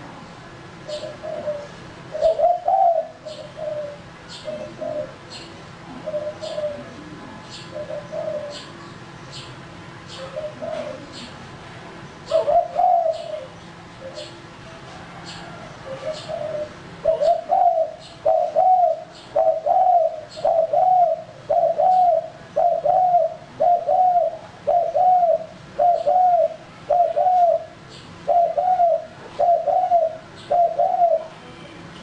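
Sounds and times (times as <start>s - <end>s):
dove cooing: 0.8s - 8.8s, 10.1s - 11.4s, 12.2s - 31.5s.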